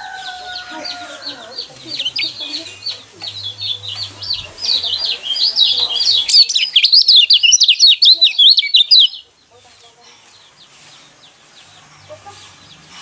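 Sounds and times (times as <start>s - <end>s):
bird chattering song: 0.0s - 13.0s.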